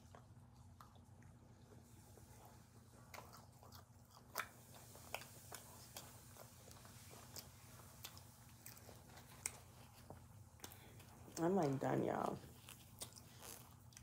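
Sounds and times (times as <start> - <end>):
person chewing food: 0.0 - 11.7, 12.3 - 14.0.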